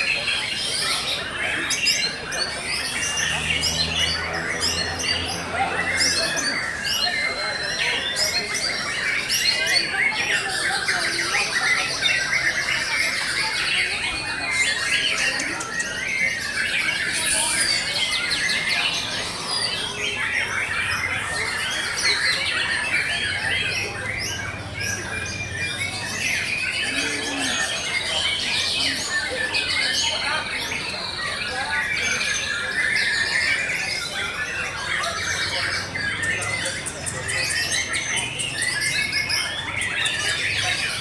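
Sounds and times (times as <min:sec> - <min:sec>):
many songbirds singing at once: 0:00.0 - 0:41.0.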